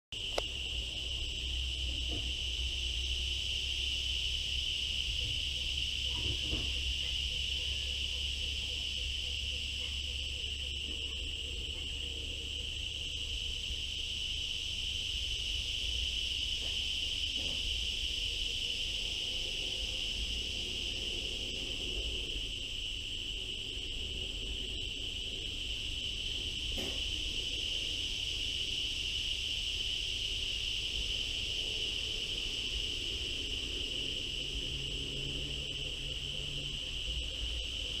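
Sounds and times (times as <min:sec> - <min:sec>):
insect chorus trilling: 0:00.2 - 0:38.0.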